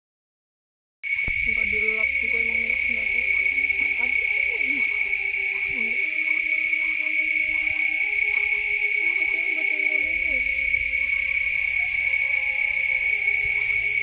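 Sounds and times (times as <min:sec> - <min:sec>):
faint wavering calls: 0:01.1 - 0:14.0
high-pitched insect drone: 0:01.1 - 0:14.0.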